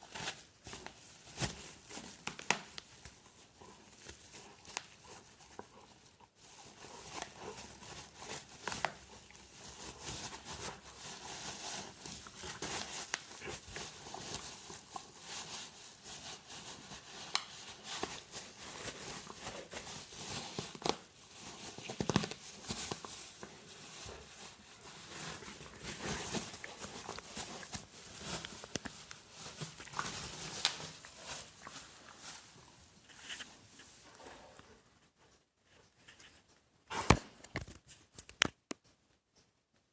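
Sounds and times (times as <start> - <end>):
bubble wrap popping: 0.0 - 5.5, 6.4 - 33.5
bubble wrap crinkling: 0.0 - 34.7.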